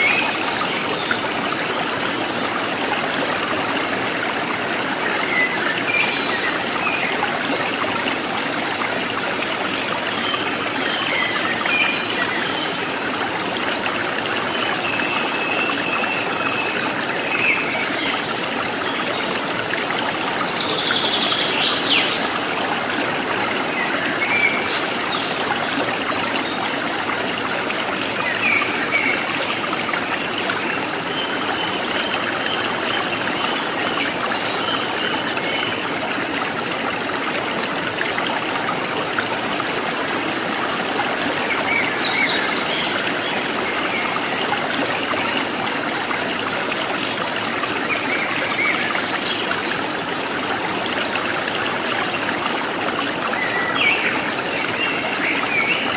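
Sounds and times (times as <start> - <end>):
stream trickling and splashing: 0.0 - 55.9.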